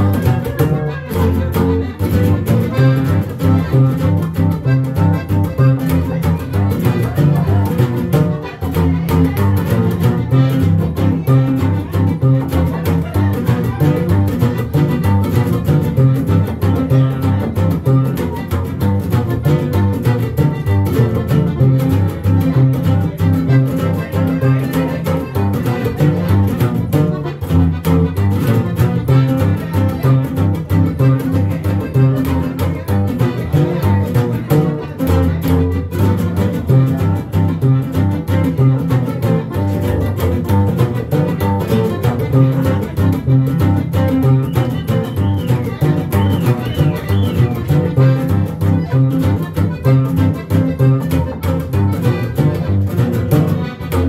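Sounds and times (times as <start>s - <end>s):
accordion melody: 0.0s - 54.0s
acoustic guitar strumming: 0.0s - 54.0s
upright double bass: 0.0s - 54.0s.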